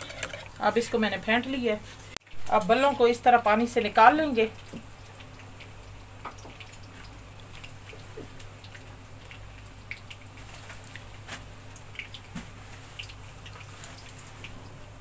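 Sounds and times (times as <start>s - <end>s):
water dripping and splashing: 2.1s - 15.0s.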